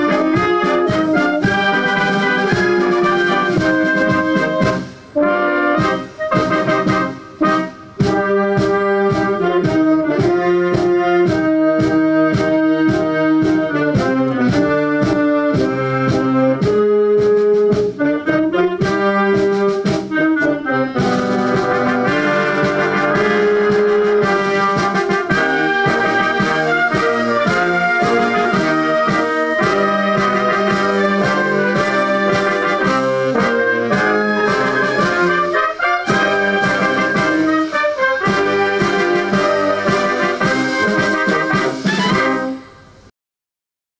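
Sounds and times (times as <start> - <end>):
brass music with steady beat: 0.0 - 43.1.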